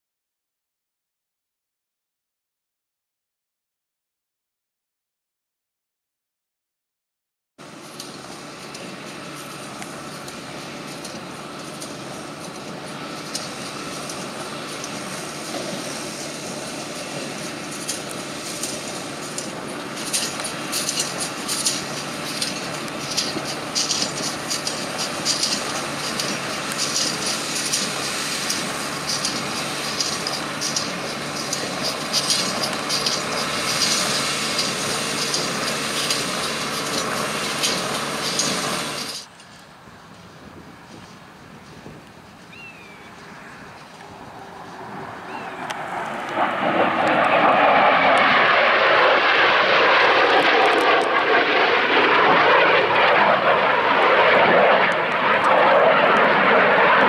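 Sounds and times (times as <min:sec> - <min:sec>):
tractor engine running under load: 0:07.6 - 0:57.0.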